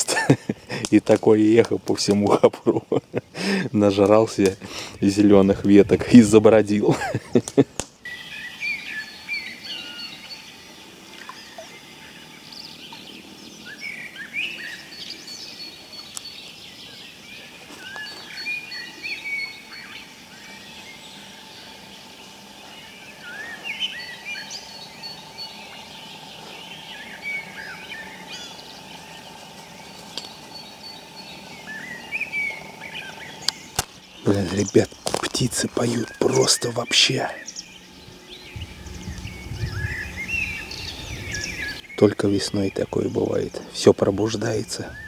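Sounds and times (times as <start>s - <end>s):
birds chirping and warbling: 0.0s - 45.0s.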